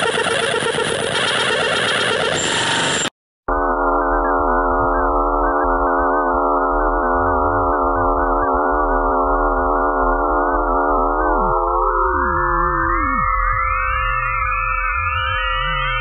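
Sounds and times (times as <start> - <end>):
eerie electronic drone: 0.0 - 16.0.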